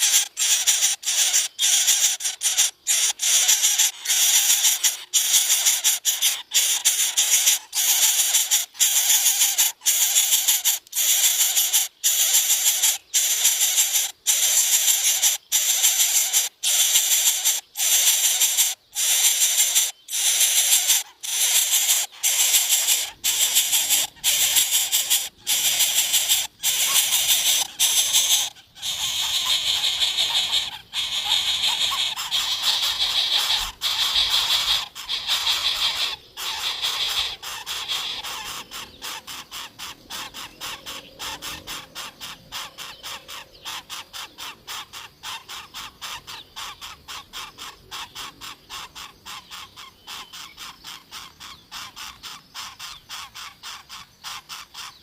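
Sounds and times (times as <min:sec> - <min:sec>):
nestlings rasping begging calls: 0:00.0 - 0:55.0.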